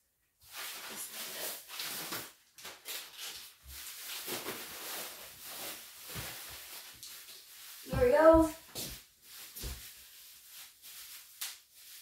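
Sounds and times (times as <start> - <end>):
things being handled and moved: 0.4 - 12.0.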